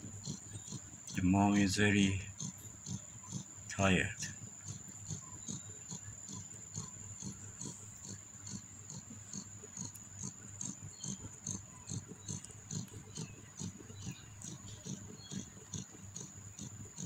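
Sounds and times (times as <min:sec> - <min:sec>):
kittens suckling: 0:00.0 - 0:17.0.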